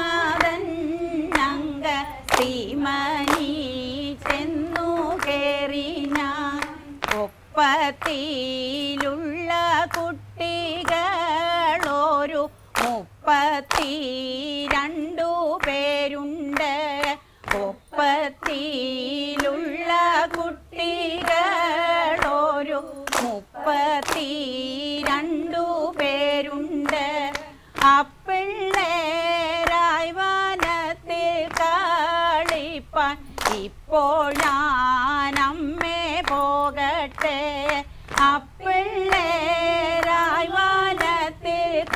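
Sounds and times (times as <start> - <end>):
hand claps: 0.0 - 20.5, 21.1 - 41.9
women singing: 0.0 - 41.9.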